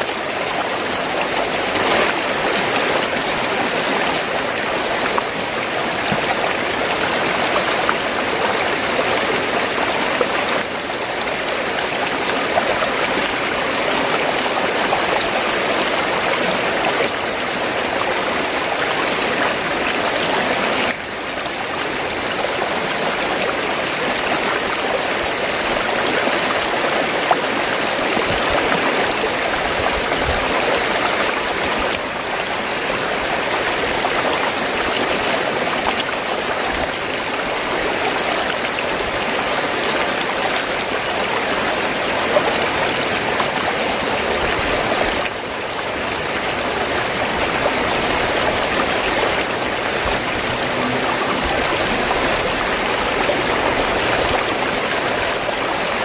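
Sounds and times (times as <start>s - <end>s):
stream water rushing and gurgling: 0.0s - 56.0s.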